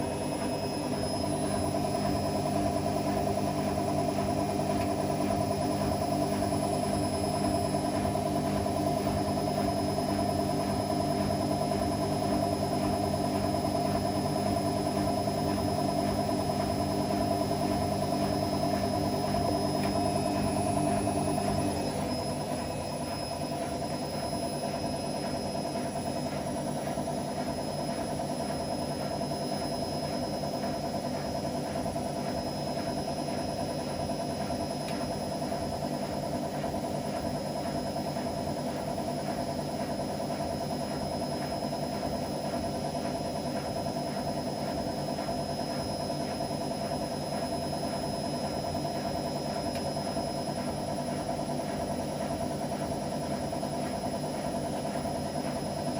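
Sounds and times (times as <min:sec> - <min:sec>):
washing machine motor humming: 0:00.0 - 0:55.9.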